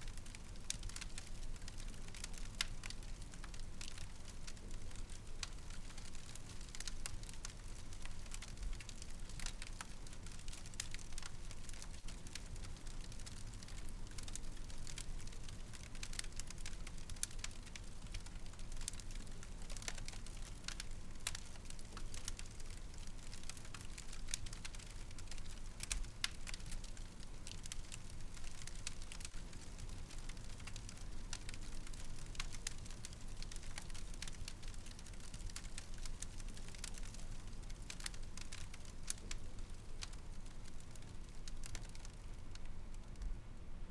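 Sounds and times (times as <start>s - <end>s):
low rumble of flames: 0.0s - 43.9s
wood fire crackling: 0.0s - 43.9s.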